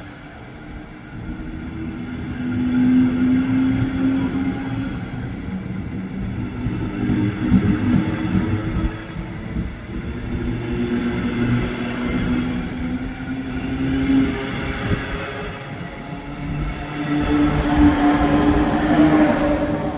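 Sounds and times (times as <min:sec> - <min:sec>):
electric train rumbling: 0:00.0 - 0:19.9
train drive humming tones: 0:00.0 - 0:19.9.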